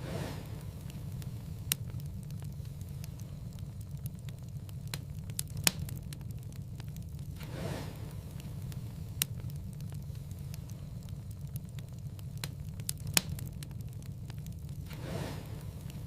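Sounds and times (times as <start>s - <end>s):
fire crackling: 0.0s - 16.0s
low rumble of flame: 0.0s - 16.0s
sharp pops of fire: 0.0s - 16.0s.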